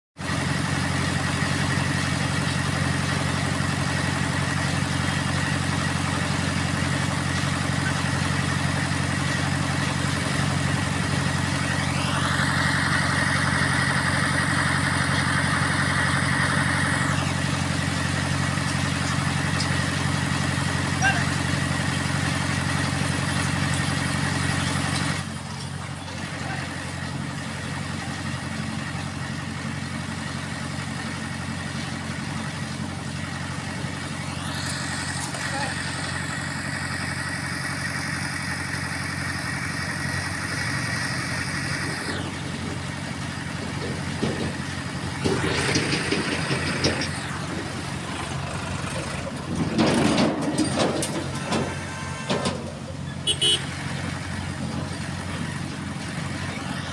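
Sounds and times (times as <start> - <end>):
crane diesel engine running: 0.2 - 56.9.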